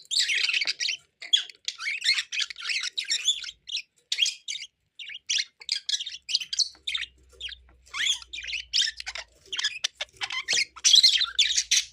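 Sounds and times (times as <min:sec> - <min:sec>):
budgerigar chattering: 0:00.2 - 0:11.9.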